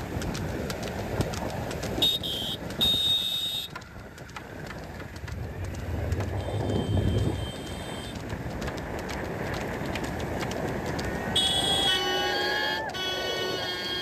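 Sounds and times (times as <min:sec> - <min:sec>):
low engine rumble: 0:00.0 - 0:13.8
vehicle engines and road noise: 0:00.0 - 0:14.0.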